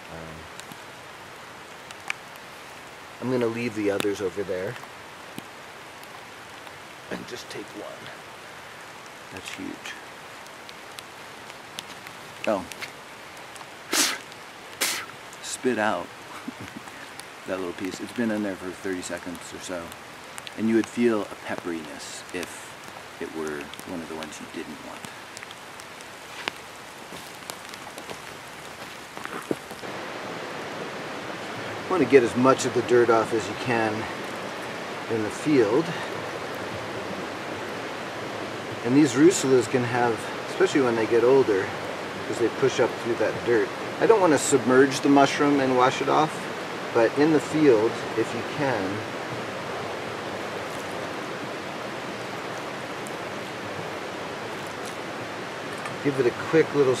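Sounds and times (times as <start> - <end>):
creek flowing: 0.0 - 57.0
light rain hiss: 0.0 - 57.0
ticks of raindrops: 0.0 - 57.0.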